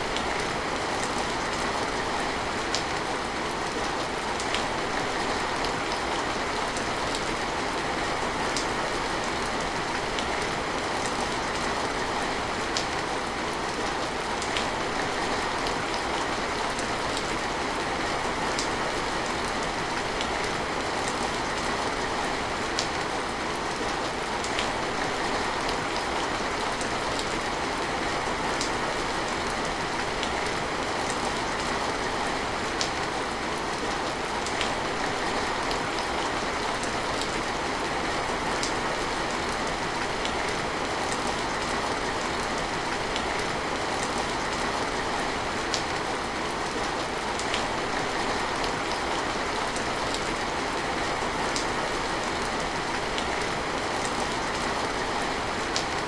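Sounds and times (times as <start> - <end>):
steady rain hiss: 0.0 - 56.0
raindrops ticking on a surface: 0.1 - 56.0.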